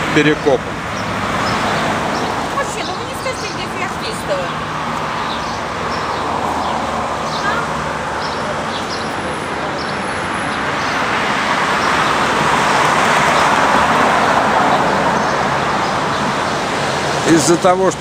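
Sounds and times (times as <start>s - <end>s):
cars passing on street: 0.0s - 18.0s.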